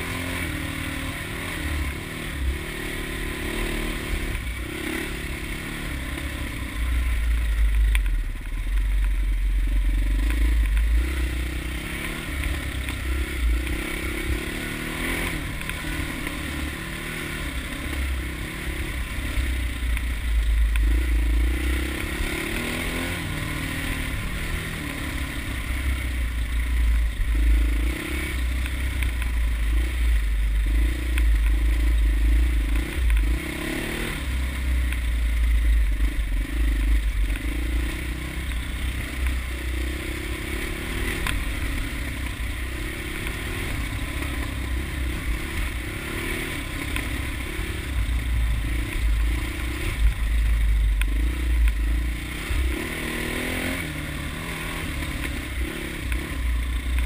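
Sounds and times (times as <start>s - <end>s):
dirt bike engine revving: 0.0s - 8.0s, 9.3s - 57.0s.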